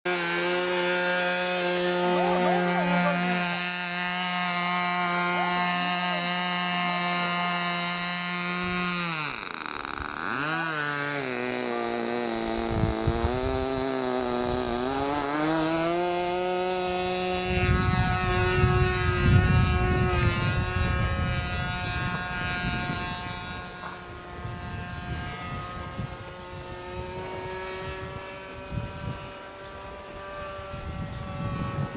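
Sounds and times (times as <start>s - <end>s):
model airplane engine and propeller: 0.1s - 31.9s
wind buffeting microphone: 0.5s - 31.9s.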